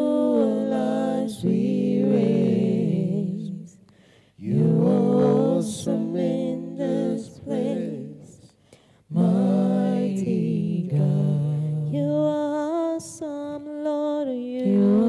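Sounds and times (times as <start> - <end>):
slow worship singing: 0.0 - 15.0.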